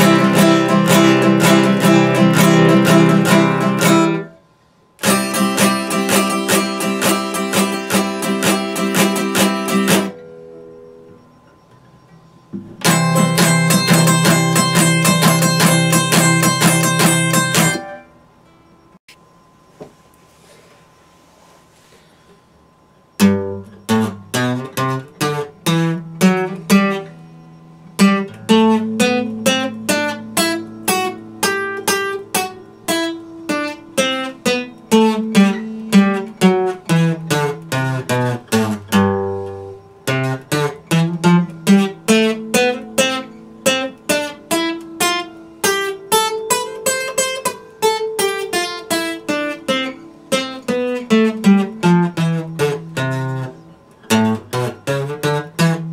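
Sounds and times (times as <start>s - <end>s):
acoustic guitar playing: 0.0s - 19.1s, 20.3s - 55.9s.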